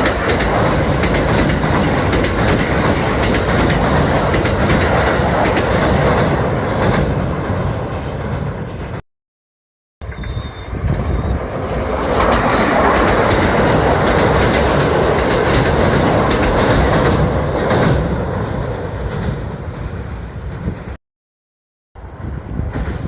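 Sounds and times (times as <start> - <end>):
electric train passing: 0.0 - 9.0, 10.0 - 21.0, 22.0 - 23.0
wheels clacking over rail joints: 0.0 - 9.0, 10.0 - 20.9.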